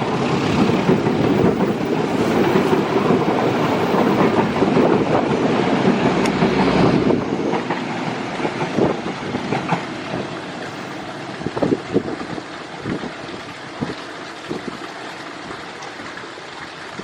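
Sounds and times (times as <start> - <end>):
train wheels rumbling on rails: 0.0 - 16.1.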